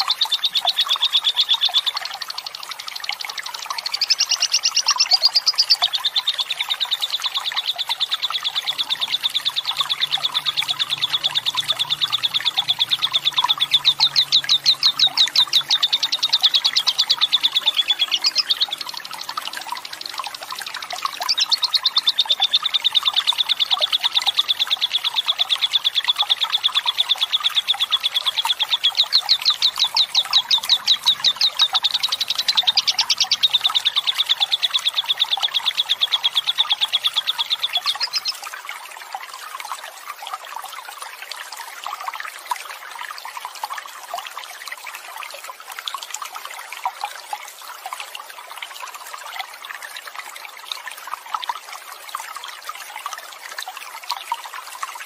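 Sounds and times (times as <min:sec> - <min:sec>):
faint running water: 0:00.0 - 0:55.0.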